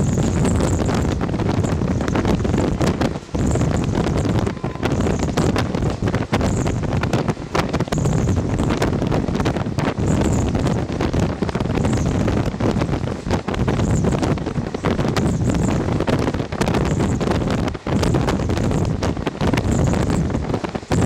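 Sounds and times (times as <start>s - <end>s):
train rumbling on track: 0.0s - 21.0s
wind buffeting microphone: 0.0s - 21.0s.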